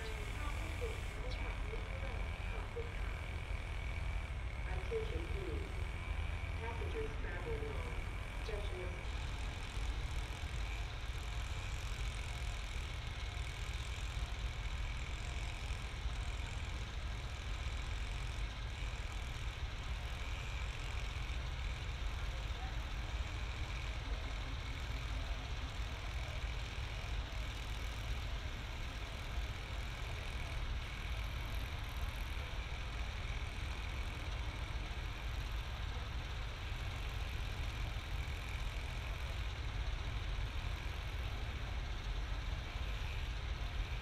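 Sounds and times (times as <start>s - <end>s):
diesel train engine idling: 0.0s - 44.0s.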